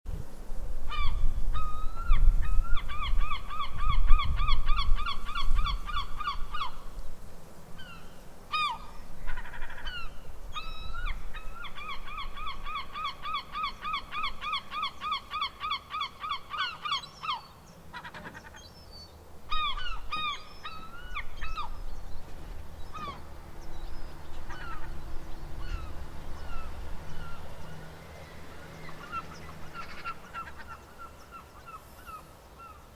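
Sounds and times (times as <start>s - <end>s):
seagulls calling: 0.9s - 7.0s, 7.8s - 32.9s.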